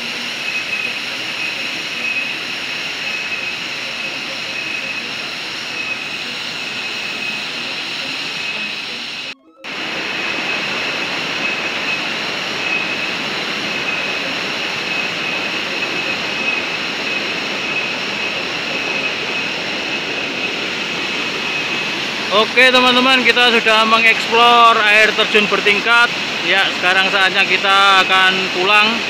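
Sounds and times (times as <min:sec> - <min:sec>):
high-pitched whine: 0:00.0 - 0:29.0
waterfall and stream rushing: 0:00.0 - 0:29.0.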